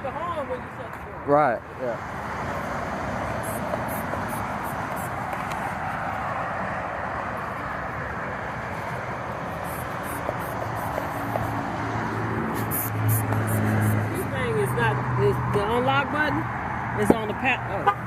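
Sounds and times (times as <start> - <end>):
steady traffic rush: 0.0 - 18.0.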